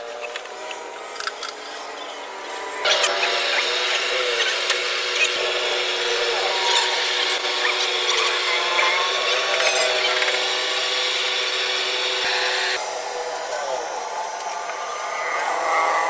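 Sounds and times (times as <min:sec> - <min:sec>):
power tool whining: 0:00.0 - 0:16.0.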